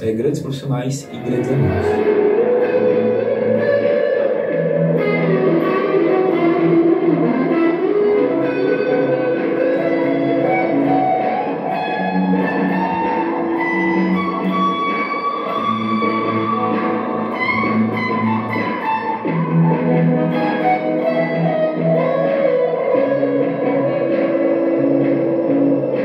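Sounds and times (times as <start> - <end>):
electric guitar music: 0.0 - 26.0.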